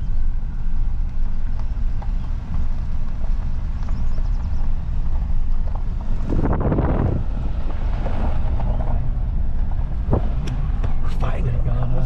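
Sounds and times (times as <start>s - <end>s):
truck driving rumble: 0.0s - 12.0s.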